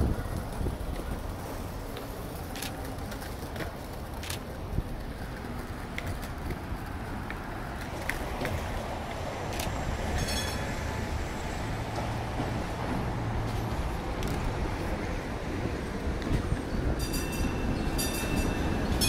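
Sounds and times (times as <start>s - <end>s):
street traffic: 0.0s - 19.0s
streetcar rumbling on rails: 0.0s - 19.0s.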